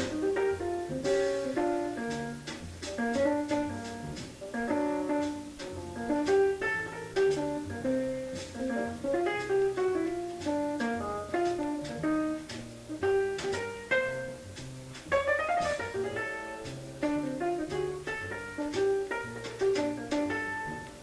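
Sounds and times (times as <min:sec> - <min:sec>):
bass line: 0:00.0 - 0:21.0
jazz guitar playing: 0:00.0 - 0:21.0.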